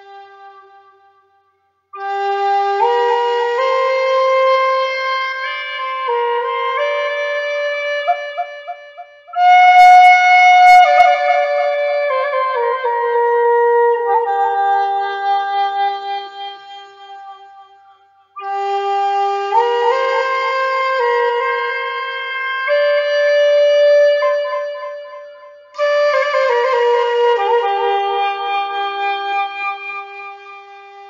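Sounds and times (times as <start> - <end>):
flute playing slow melody: 1.9 - 31.0.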